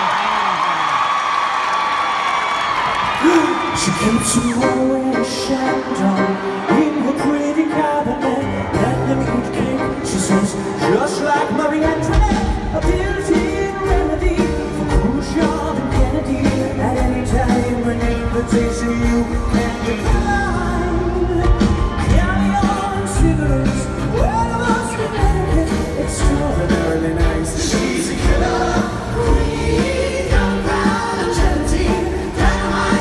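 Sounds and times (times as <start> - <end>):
live rock band: 3.0 - 33.0
man singing: 3.2 - 33.0.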